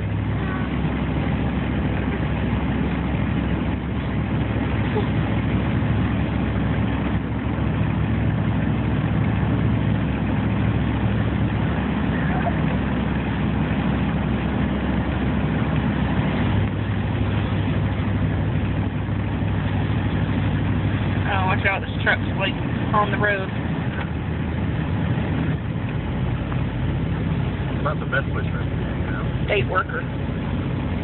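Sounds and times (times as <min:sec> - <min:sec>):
road noise inside car: 0:00.0 - 0:31.0
vehicle engine hum: 0:00.0 - 0:31.0.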